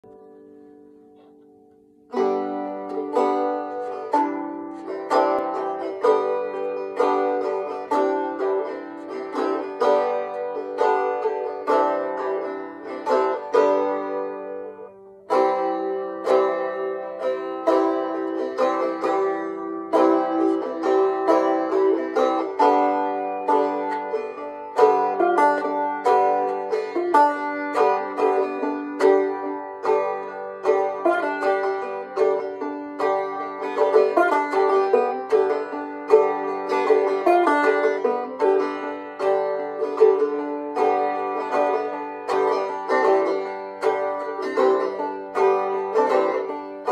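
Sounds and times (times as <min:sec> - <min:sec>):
banjo picking: 0:00.0 - 0:46.9.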